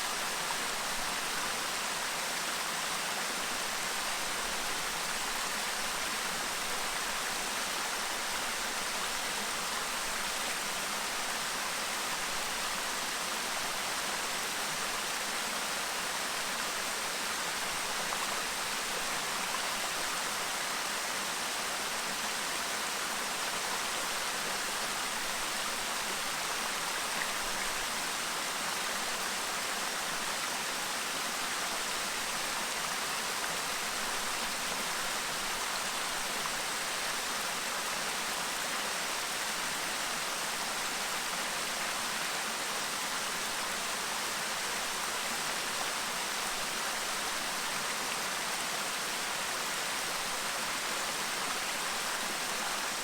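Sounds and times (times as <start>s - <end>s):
stream babbling: 0.1s - 53.0s.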